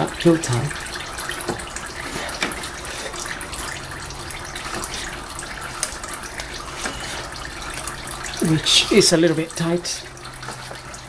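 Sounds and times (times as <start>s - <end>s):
oil pouring into drain pan: 0.0s - 11.0s.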